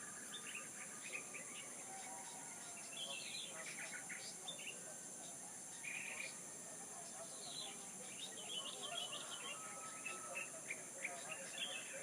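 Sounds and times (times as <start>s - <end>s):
small birds chirping: 0.0s - 12.0s
steady high-pitched hiss: 0.0s - 12.0s.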